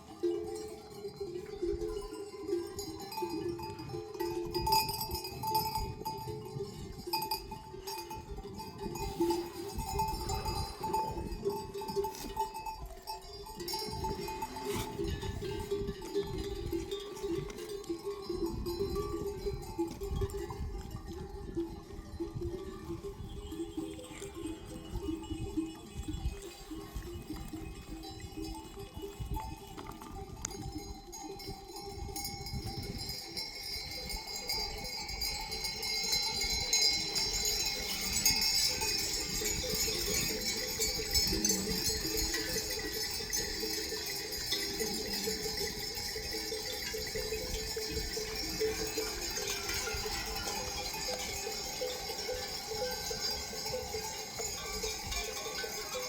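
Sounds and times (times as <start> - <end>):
livestock bells jangling: 0.0 - 56.0.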